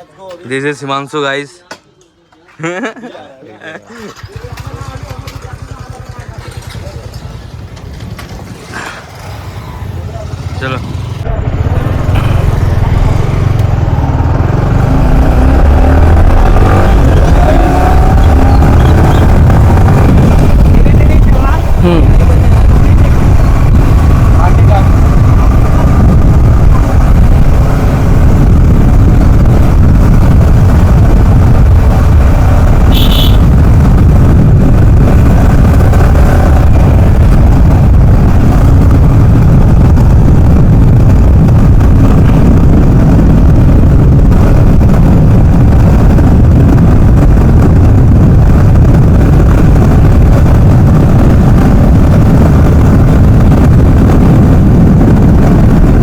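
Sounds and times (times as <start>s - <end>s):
motorcycle running: 3.6s - 56.0s
wind rumble on microphone: 4.4s - 56.0s.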